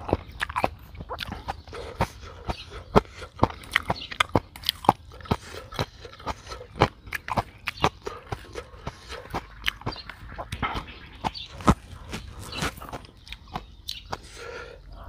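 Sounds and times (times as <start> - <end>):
crunchy wet chewing: 0.0 - 15.0.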